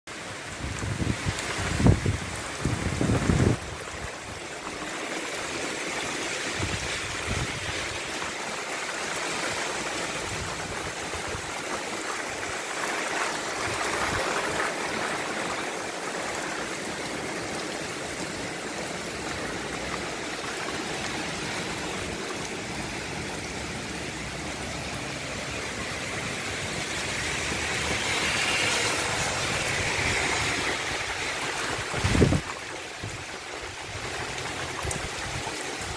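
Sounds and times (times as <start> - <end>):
heavy rain pouring on street: 0.1 - 35.9.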